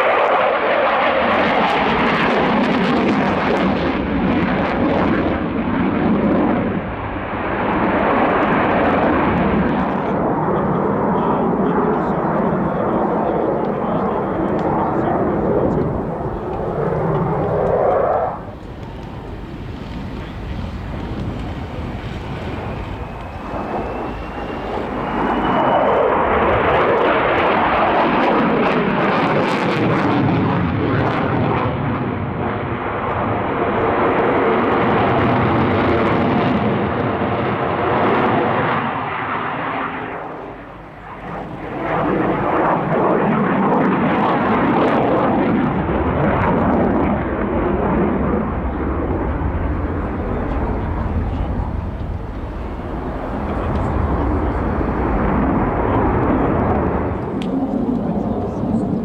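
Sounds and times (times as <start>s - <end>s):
jet flying by: 0.0s - 59.0s.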